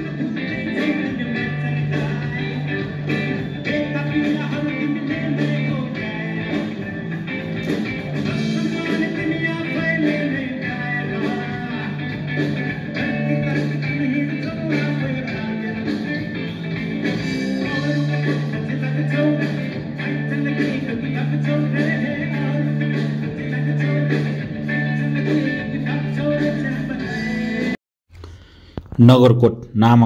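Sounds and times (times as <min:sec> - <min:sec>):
rock song with singing: 0:00.0 - 0:27.8
guitar: 0:00.0 - 0:28.5.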